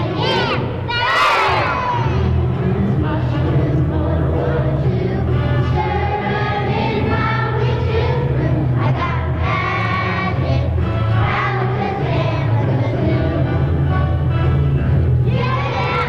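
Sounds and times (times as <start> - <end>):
children's choir singing: 0.0 - 14.2, 15.2 - 16.0
low accompaniment: 0.0 - 16.0.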